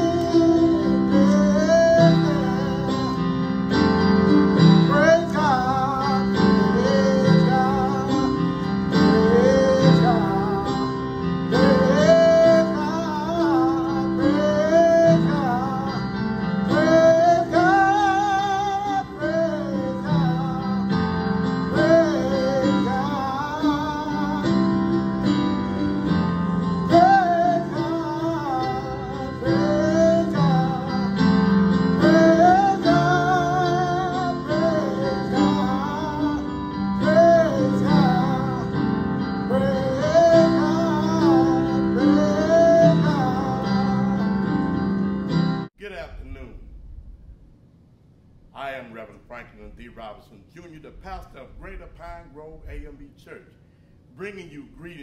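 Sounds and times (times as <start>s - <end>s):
man singing: 0.0s - 45.0s
electronic keyboard chords: 0.0s - 45.7s.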